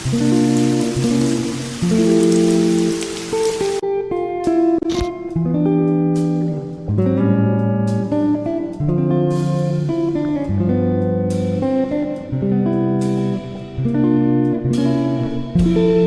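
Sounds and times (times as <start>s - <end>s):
guitar plucking chords: 0.0s - 16.0s.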